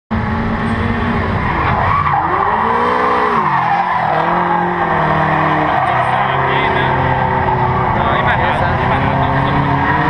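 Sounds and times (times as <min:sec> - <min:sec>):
car engine revving: 0:00.1 - 0:10.0
tyres squealing: 0:01.8 - 0:10.0.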